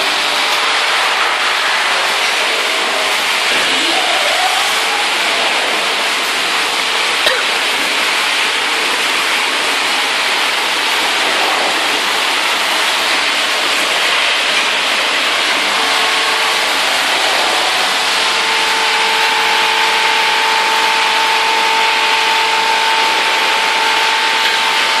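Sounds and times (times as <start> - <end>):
rushing machine noise: 0.0 - 25.0
steady hum: 0.0 - 25.0.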